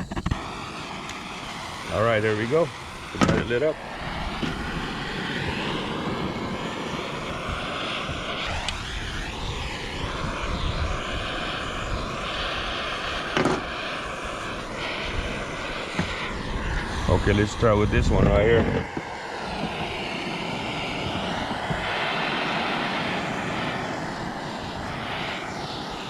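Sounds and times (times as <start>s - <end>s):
gas torch hissing: 0.0s - 26.0s
wind gusting on microphone: 0.0s - 26.0s.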